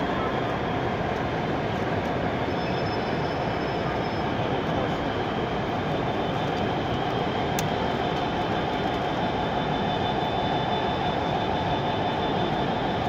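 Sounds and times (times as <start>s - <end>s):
model train drone with high whine: 0.0s - 13.0s.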